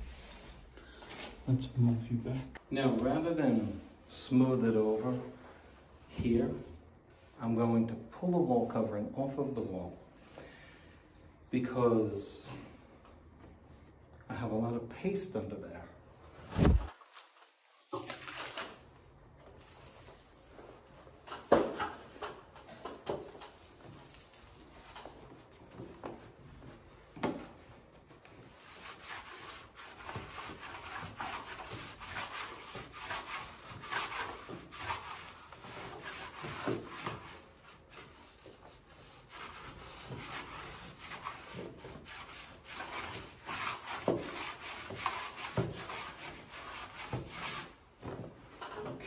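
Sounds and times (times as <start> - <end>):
hand rubbing wallpaper: 0.0 - 10.3, 13.4 - 14.1, 16.3 - 48.6.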